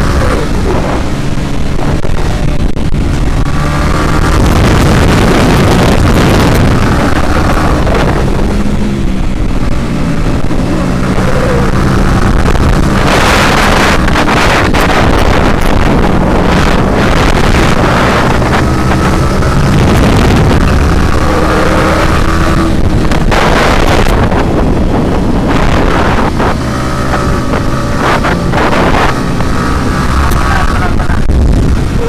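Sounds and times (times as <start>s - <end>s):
motorcycle engine: 0.0s - 32.0s
wind noise on microphone: 0.0s - 32.0s.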